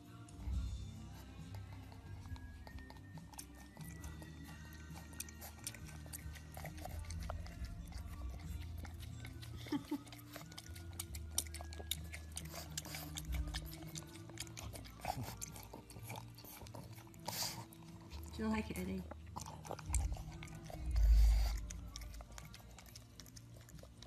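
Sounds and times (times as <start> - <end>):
music: 0.0 - 24.0
dog licking and lapping: 0.2 - 24.0.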